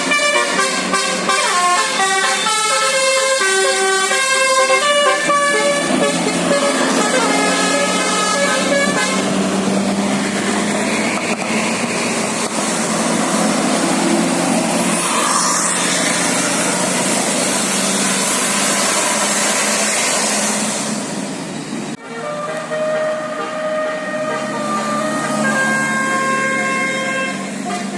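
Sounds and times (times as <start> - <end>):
bus engine drone: 0.0 - 27.9
rushing road and traffic noise: 0.0 - 27.9.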